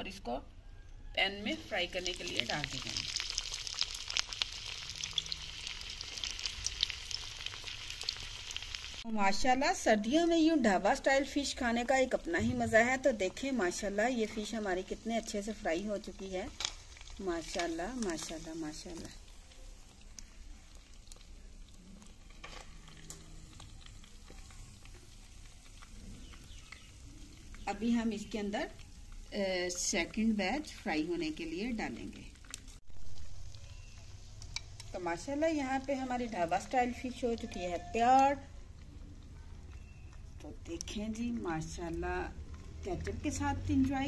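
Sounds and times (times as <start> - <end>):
fish sizzling in hot oil: 1.6 - 9.1, 10.1 - 38.5.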